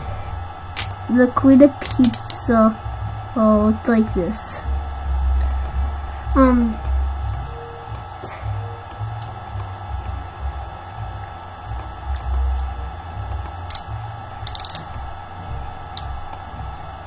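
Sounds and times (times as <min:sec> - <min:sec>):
low knocks and rumble: 0:02.8 - 0:17.0.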